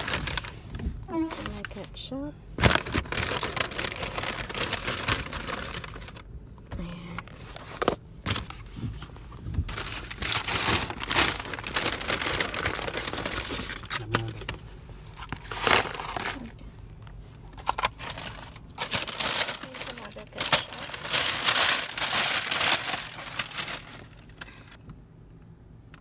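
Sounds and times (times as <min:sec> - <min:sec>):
paper bag and boxes rustling: 0:00.0 - 0:02.0, 0:02.6 - 0:06.2, 0:07.2 - 0:16.6, 0:17.4 - 0:24.5.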